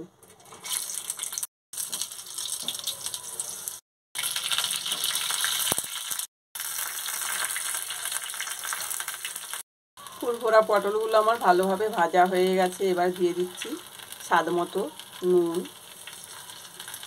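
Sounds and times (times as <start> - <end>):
vegetables sizzling in hot oil: 0.6 - 17.0.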